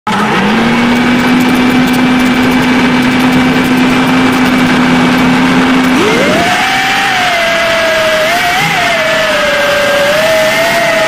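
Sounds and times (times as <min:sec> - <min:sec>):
drone motors humming: 0:00.1 - 0:11.0.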